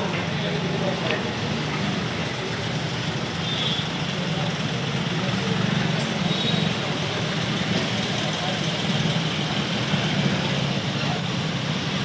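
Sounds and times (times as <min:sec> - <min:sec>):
street traffic noise: 0:00.0 - 0:12.0
vehicle engines running: 0:00.0 - 0:12.0.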